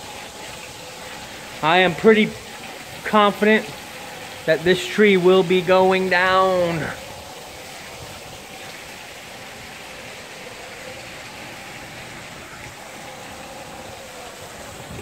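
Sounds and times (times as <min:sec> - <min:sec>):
driving rain: 0:00.0 - 0:15.0
hurricane wind rushing: 0:01.2 - 0:15.0.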